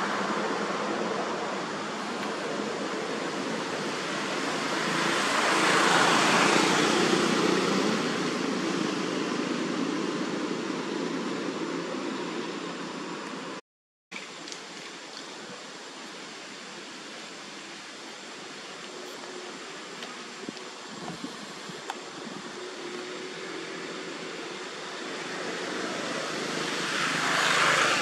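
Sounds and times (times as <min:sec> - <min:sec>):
steady rushing noise: 0:00.0 - 0:13.6, 0:15.5 - 0:28.0.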